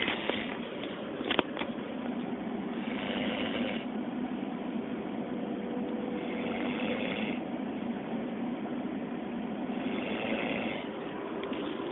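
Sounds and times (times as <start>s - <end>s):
train running noise inside carriage: 0.0s - 11.9s.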